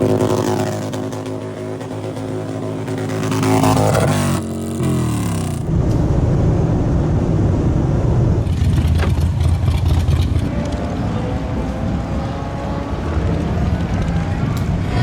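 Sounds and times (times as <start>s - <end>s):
deep engine rumble: 0.0s - 15.0s
motorcycle engines revving: 0.0s - 15.0s.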